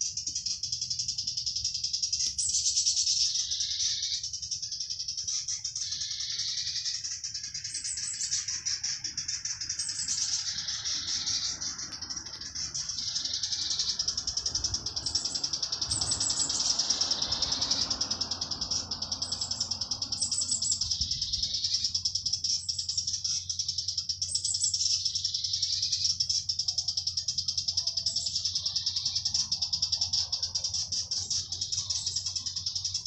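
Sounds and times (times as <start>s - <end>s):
cicadas buzzing: 0.0s - 33.0s.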